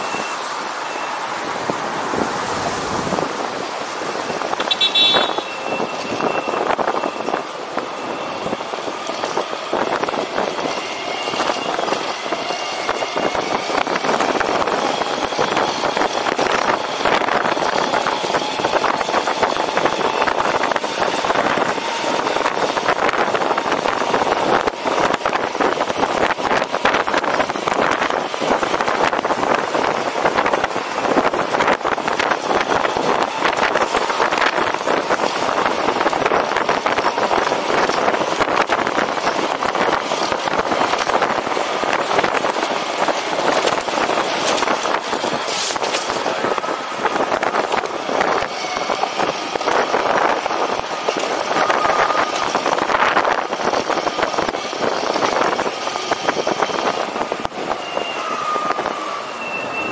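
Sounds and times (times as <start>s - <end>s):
rushing road noise: 0.0s - 59.9s.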